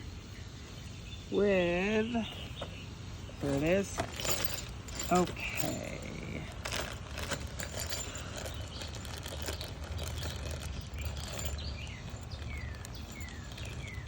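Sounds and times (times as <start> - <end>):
bird chirping: 0.0 - 14.0
low steady rumble: 0.0 - 14.0
handling rustles and clicks: 2.3 - 14.0.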